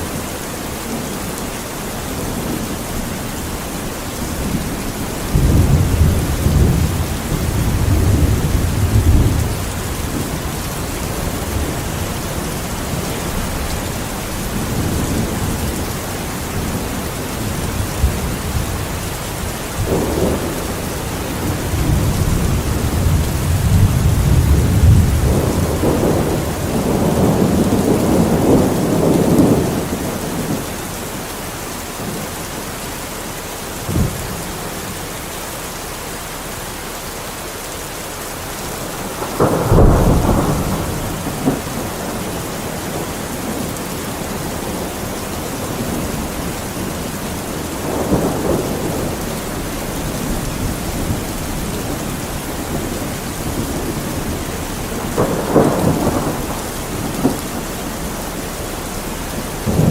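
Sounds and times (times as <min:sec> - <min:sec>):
heavy rain: 0:00.0 - 0:59.9
thunder rumbling and cracking: 0:00.8 - 0:31.3, 0:33.8 - 0:34.9, 0:38.4 - 0:59.9.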